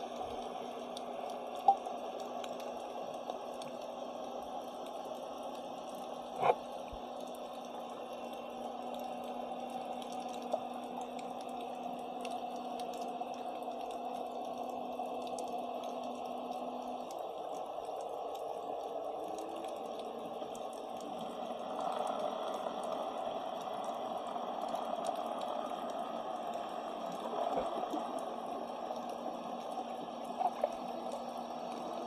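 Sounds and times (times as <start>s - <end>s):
faint clicks: 0.1s - 32.0s.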